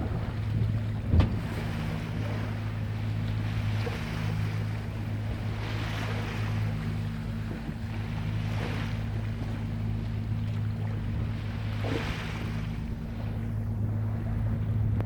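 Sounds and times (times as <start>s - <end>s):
boat engine humming: 0.0s - 15.0s
water splashing against hull: 0.0s - 15.0s.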